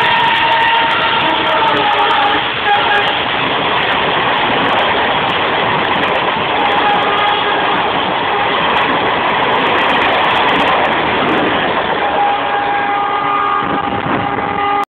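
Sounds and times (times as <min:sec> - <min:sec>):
train rumbling at high speed: 0:00.0 - 0:14.9.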